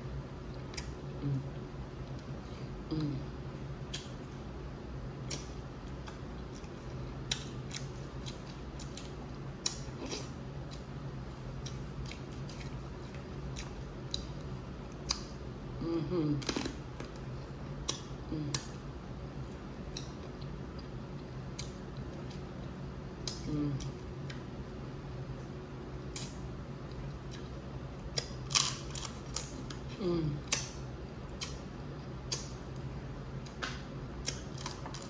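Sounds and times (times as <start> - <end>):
air conditioner hum: 0.0 - 35.0.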